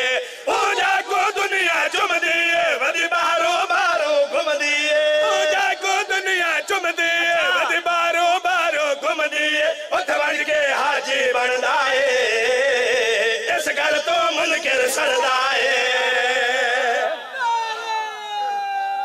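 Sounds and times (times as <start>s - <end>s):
men chanting devotional verse: 0.0s - 17.6s.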